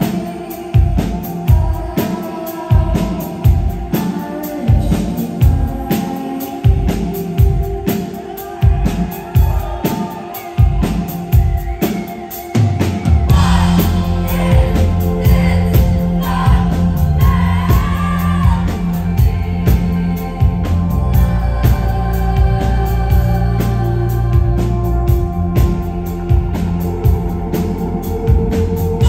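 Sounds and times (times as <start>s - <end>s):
live rock band playing: 0.0s - 29.0s
steady drum beat: 0.0s - 29.0s
woman singing: 0.0s - 29.0s.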